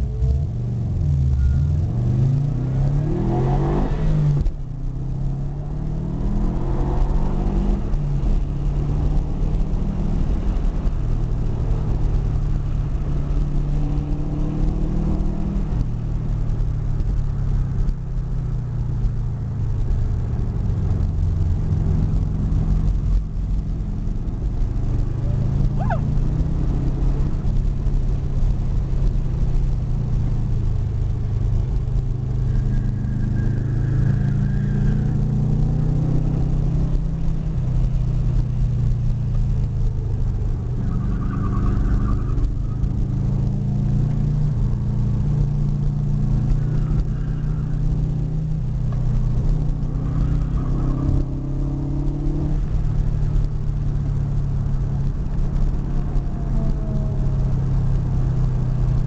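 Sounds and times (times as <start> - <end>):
car engine revving: 0.0 - 59.0
road noise: 0.0 - 59.0.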